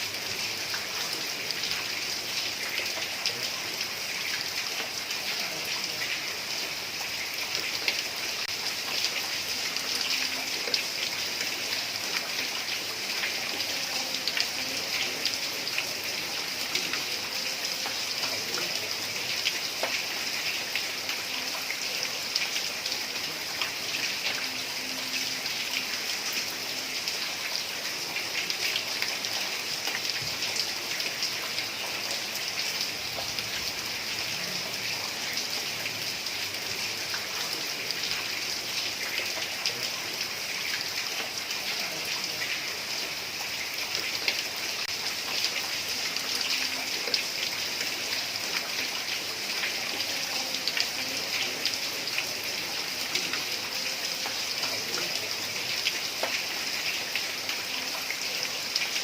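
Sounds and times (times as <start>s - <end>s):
heavy rain on a tiled roof: 0.0s - 59.0s.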